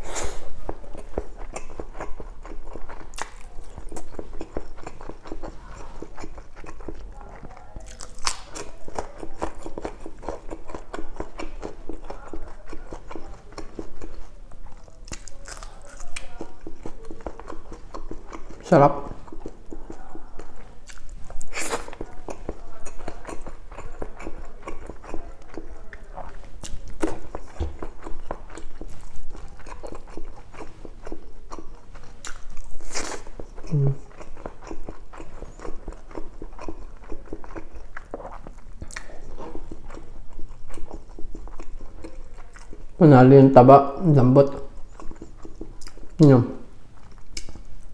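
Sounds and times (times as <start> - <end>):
person chewing and smacking: 0.0 - 43.0, 44.4 - 47.9.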